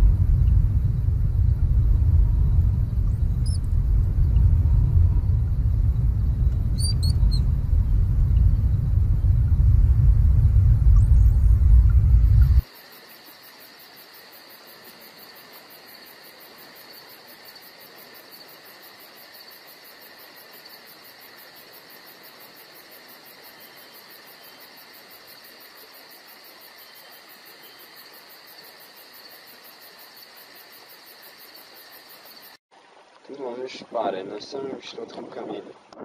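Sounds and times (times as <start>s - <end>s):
insect chorus pulsing: 0.0s - 32.6s.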